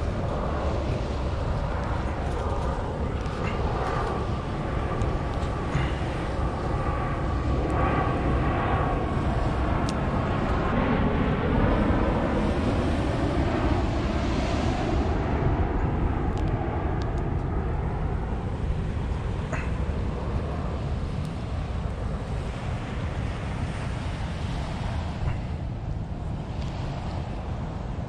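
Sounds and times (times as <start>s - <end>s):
distant engine drone: 0.0s - 28.0s
surf at beach: 0.0s - 28.0s
wind on microphone: 0.0s - 28.0s.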